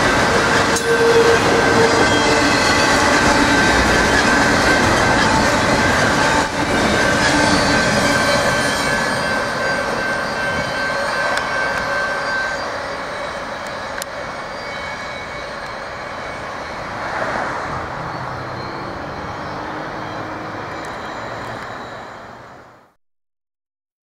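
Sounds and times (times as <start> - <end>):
train wheels rumbling on track: 0.0 - 22.6.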